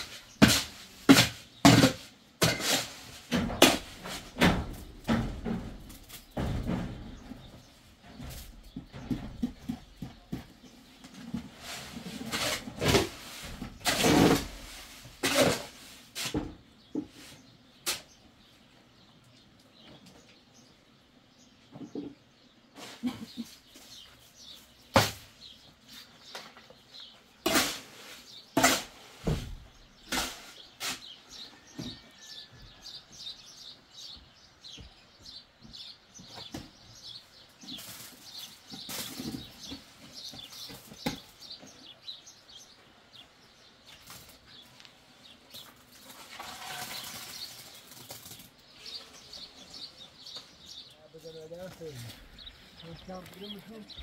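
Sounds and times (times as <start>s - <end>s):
small birds chirping: 3.1s - 54.0s.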